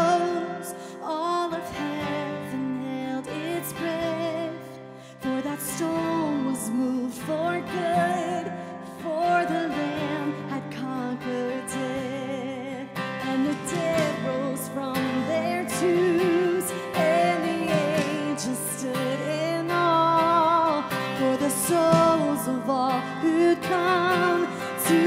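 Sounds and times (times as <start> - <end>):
strummed acoustic guitar: 0.0 - 25.0
woman singing with vibrato: 0.0 - 25.0.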